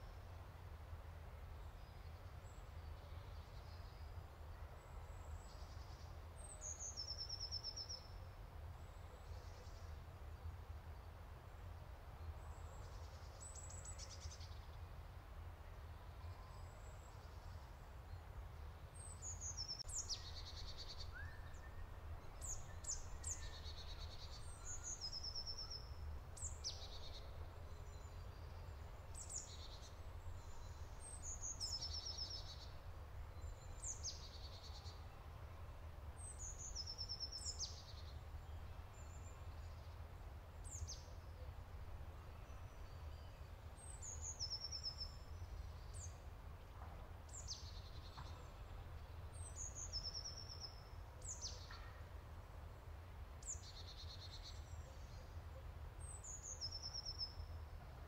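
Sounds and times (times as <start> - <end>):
songbirds singing: 1.5 - 15.0, 15.8 - 58.0.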